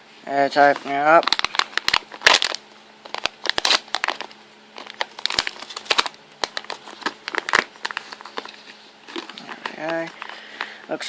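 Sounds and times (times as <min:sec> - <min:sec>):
plastic packaging crinkling and tearing: 0:00.7 - 0:10.8.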